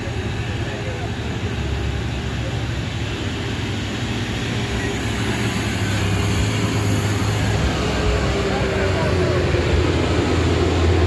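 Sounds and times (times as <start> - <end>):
bus diesel engine passing: 0.0 - 11.0.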